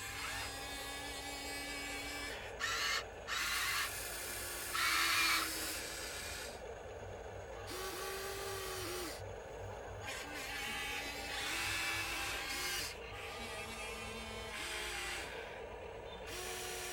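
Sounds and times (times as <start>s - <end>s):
small electric motors whirring: 0.0s - 16.9s.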